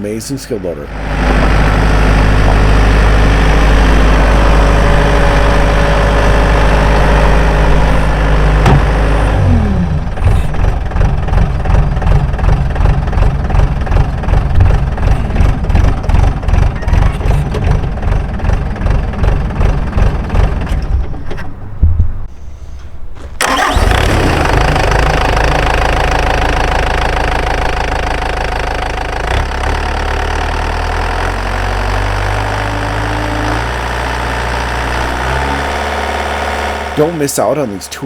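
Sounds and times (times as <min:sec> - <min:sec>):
diesel engine revving and idling: 0:00.0 - 0:21.8, 0:23.4 - 0:38.0.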